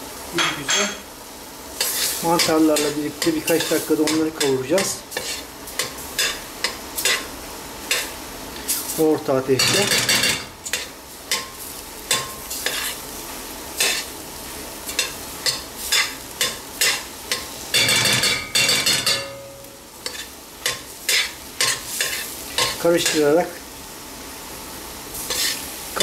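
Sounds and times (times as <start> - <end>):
faint sizzle: 0.0 - 26.0.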